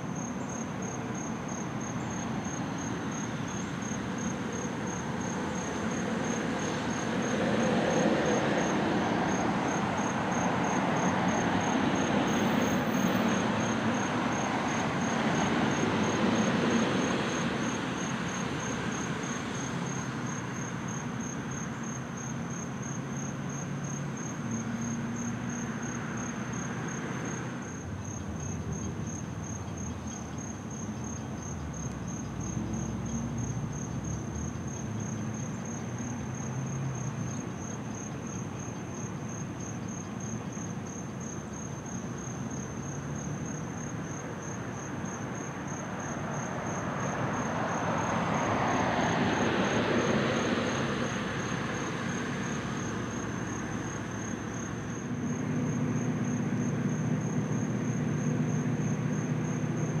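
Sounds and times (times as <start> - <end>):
insects chirping in pulsing trill: 0.0 - 60.0.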